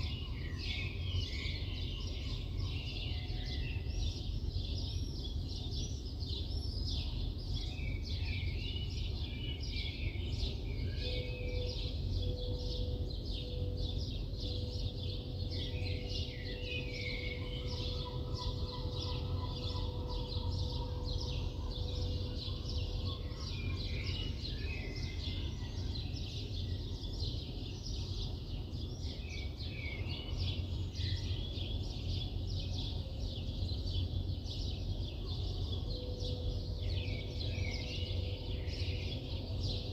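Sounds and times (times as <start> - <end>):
low city rumble: 0.0 - 39.9
small birds chirping: 0.0 - 39.9.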